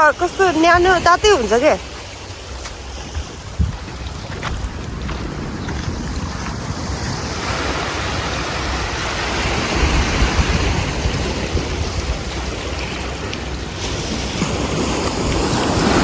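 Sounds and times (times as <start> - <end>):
sea surf washing ashore: 0.0 - 16.0
wind rumbling on microphone: 0.0 - 16.0.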